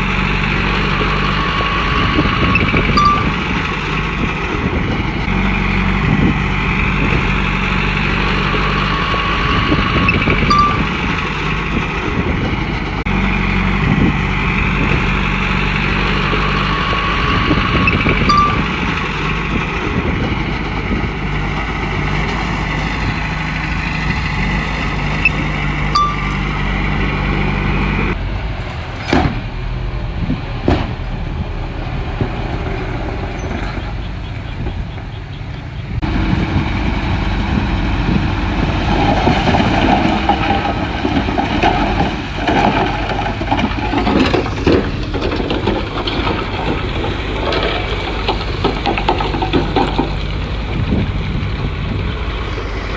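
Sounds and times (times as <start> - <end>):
heavy diesel machinery running: 0.0 - 52.9.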